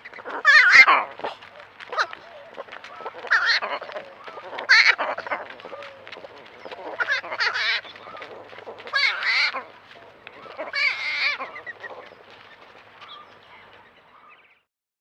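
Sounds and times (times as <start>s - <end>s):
peccary calling: 0.0s - 14.3s.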